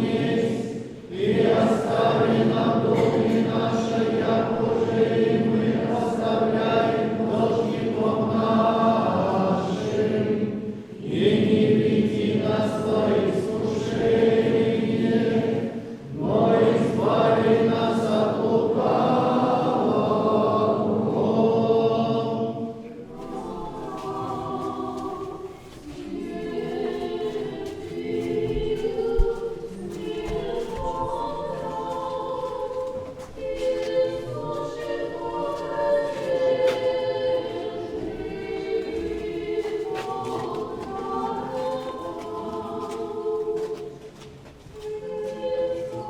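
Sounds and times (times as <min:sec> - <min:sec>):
choir singing unaccompanied chant: 0:00.0 - 0:46.0.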